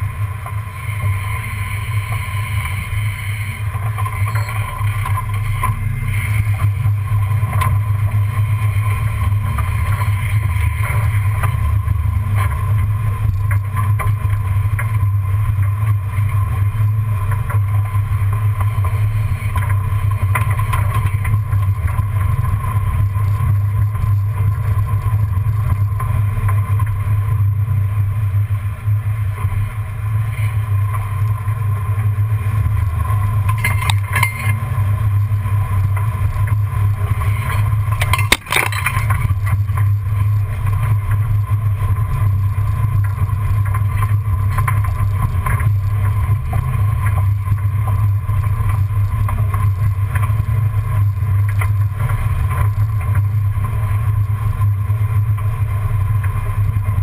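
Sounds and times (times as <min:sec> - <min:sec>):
vehicle rumbling over dirt: 0:00.0 - 0:57.0.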